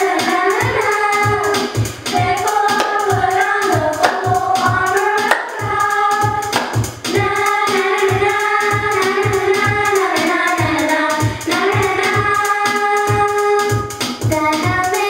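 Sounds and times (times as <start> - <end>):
people singing over a beat: 0.0 - 15.0.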